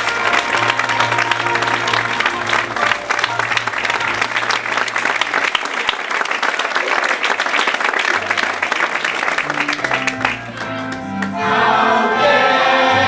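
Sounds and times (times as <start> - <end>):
music playing: 0.0 - 5.6, 8.1 - 13.0
audience applauding: 0.0 - 12.4.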